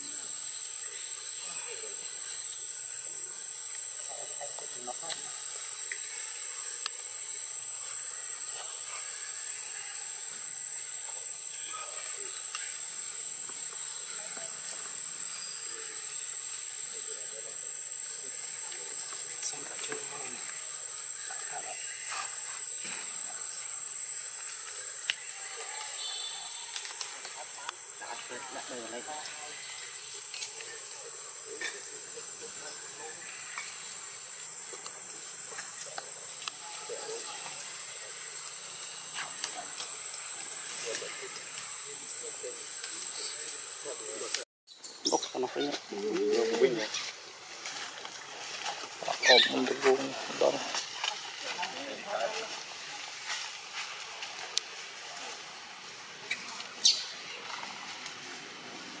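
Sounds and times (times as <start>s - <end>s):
background hiss: 0.0s - 59.0s
high-pitched insect chorus: 0.0s - 59.0s.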